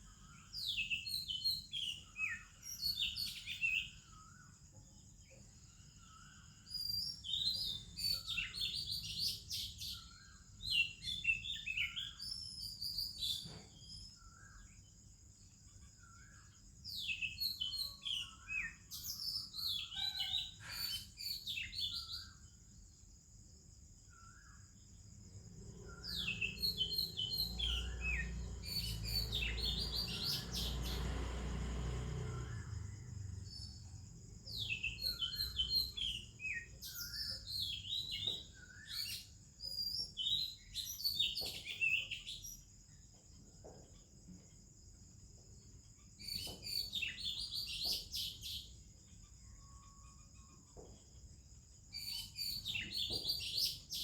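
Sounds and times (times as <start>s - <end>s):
bird singing whistles and warbles: 0.0s - 4.6s, 5.6s - 14.9s, 16.0s - 22.6s, 24.1s - 31.2s, 32.3s - 43.1s, 45.9s - 51.1s, 51.9s - 54.0s.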